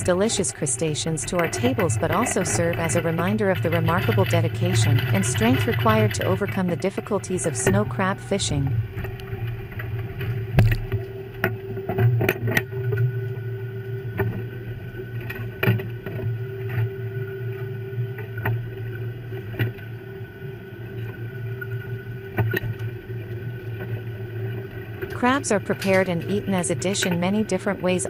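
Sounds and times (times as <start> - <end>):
boat machinery drone: 0.0 - 28.0.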